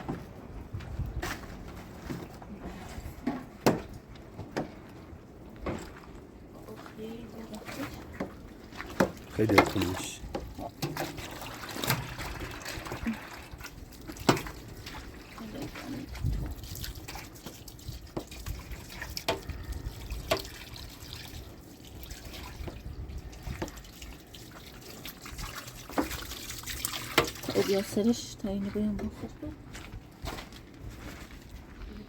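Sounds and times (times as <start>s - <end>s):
water dripping and splashing: 3.7s - 30.4s.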